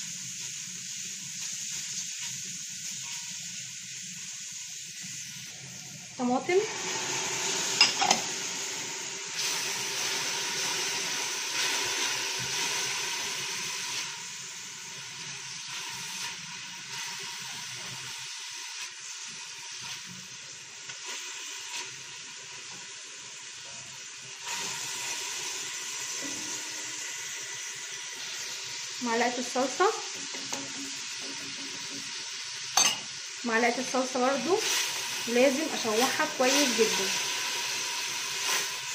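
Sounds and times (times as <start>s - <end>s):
tomato sizzling in a pot: 0.0s - 38.9s.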